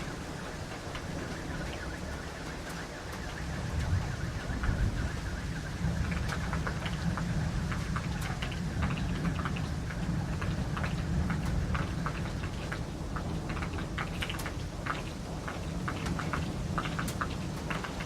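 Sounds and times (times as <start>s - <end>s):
raindrops clicking close by: 0.0s - 18.0s
steady rain: 0.0s - 18.0s.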